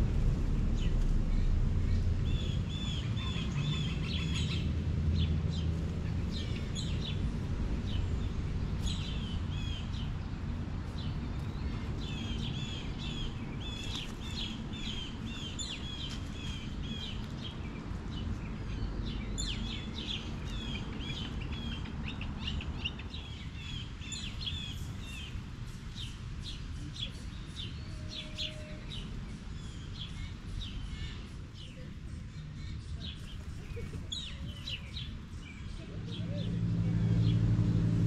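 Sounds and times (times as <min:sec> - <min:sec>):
low outdoor rumble: 0:00.0 - 0:38.0
songbirds chirping and singing: 0:00.7 - 0:37.9.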